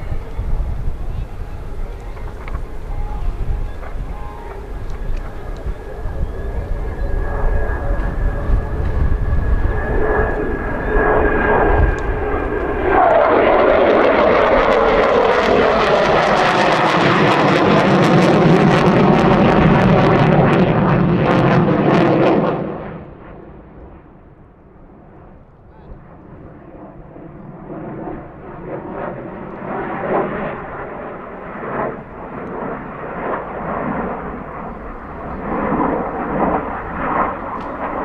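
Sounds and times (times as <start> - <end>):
jet engine whine: 0.0 - 38.0
jet roaring past with crackle: 0.0 - 38.0.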